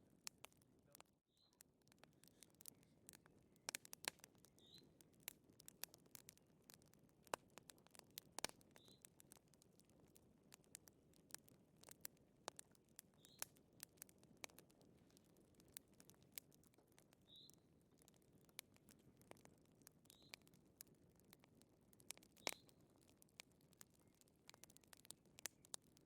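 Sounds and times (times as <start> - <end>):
wood fire snaps and pops: 0.0 - 26.0.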